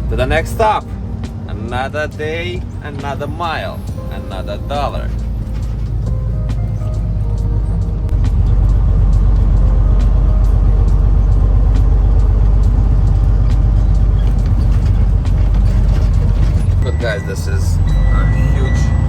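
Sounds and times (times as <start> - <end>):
truck engine and road noise: 0.0 - 19.0.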